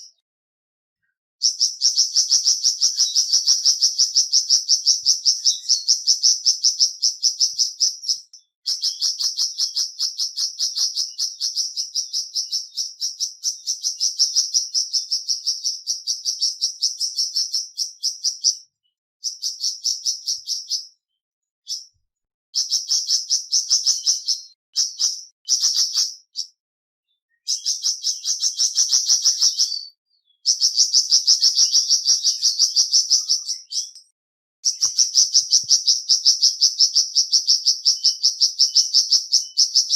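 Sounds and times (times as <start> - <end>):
songbird chattering trill: 1.4 - 18.6, 19.2 - 21.0, 22.6 - 26.6, 27.3 - 39.9.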